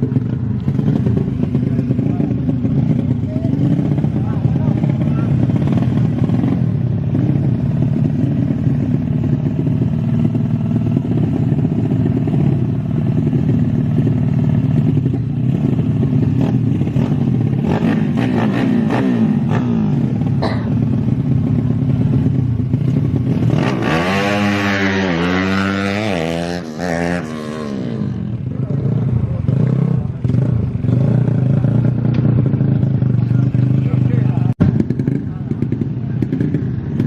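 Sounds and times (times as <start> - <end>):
motorcycle engine revving: 0.0 - 37.0
motorcycle engines running: 0.0 - 37.0.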